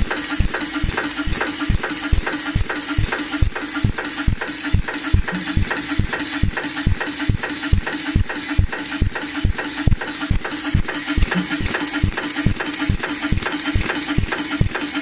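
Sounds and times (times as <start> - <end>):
machine head striking rhythmically: 0.0 - 15.0
mechanical hum: 0.0 - 15.0.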